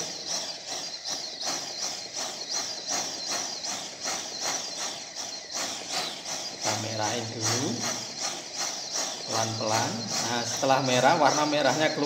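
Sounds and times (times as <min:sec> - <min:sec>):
soldering torch hissing: 0:00.0 - 0:12.0.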